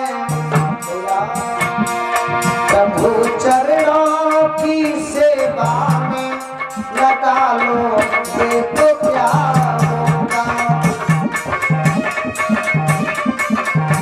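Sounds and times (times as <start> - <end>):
person singing devotional song: 0.0 - 12.6
tabla beat: 0.0 - 14.0.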